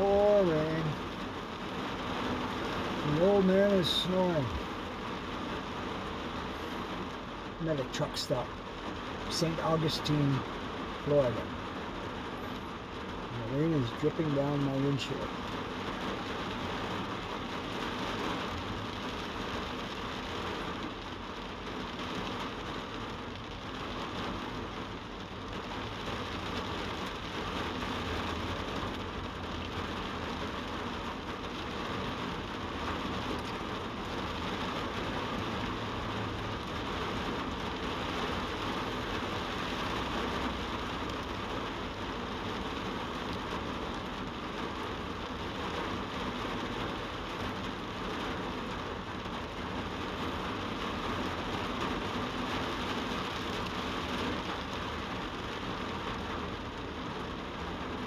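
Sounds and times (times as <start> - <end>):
rain on vehicle windshield and roof: 0.0 - 58.0.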